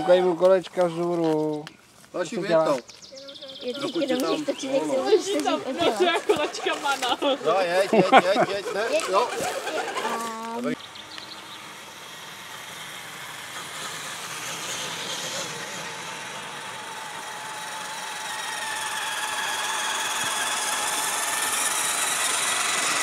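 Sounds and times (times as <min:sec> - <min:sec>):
toy truck motors whining: 0:02.5 - 0:23.0.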